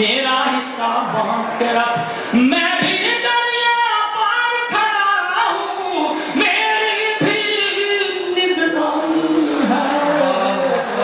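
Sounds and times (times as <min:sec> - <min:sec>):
man singing through microphone: 0:00.0 - 0:11.0.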